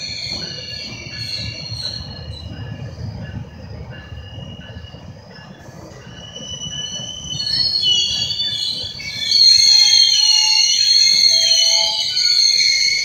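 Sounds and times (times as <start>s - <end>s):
low train rumble: 0.0s - 13.0s
train wheels and brakes squealing: 0.0s - 13.0s.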